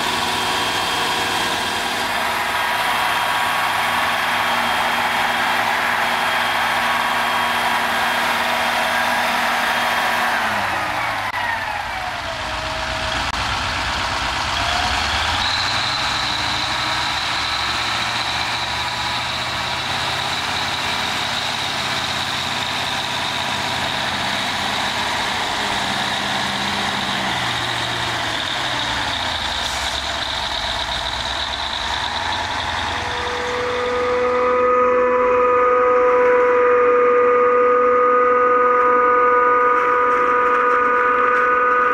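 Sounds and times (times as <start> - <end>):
tractor engines working under load: 0.0 - 41.9.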